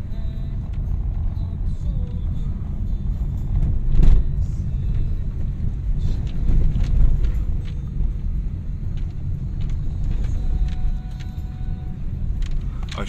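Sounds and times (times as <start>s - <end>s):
car driving on gravel: 0.0s - 13.0s.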